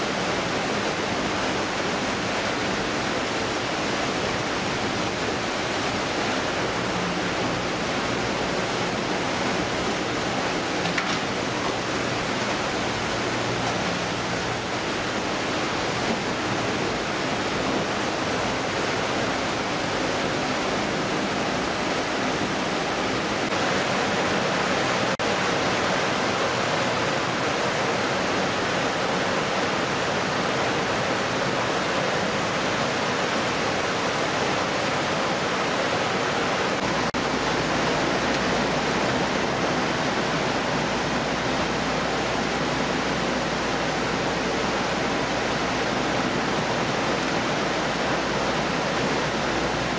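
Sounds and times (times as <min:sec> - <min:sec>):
conveyor machinery: 0:00.0 - 0:49.9
running and spraying water: 0:00.0 - 0:49.9.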